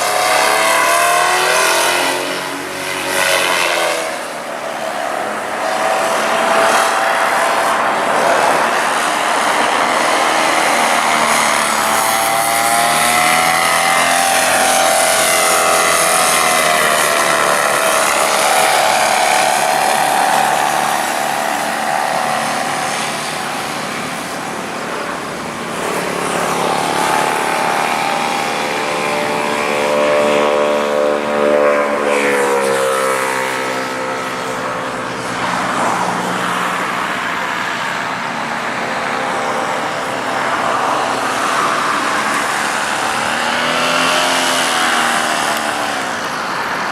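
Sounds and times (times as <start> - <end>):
model aircraft motor whine: 0.0 - 46.9.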